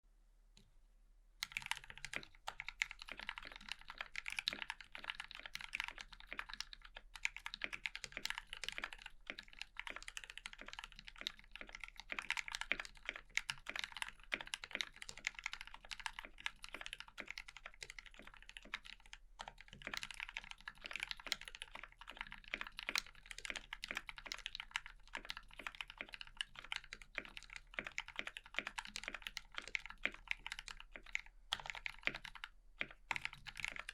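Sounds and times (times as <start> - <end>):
mechanical keyboard typing: 1.4 - 33.9.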